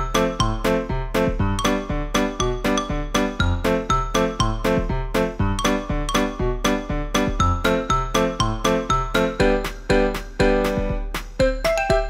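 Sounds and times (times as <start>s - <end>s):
bouncy plucked tune: 0.2s - 12.0s.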